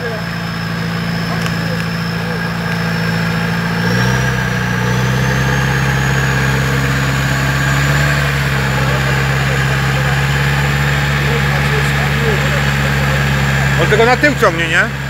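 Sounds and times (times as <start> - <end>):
engine running under load: 0.0 - 15.0.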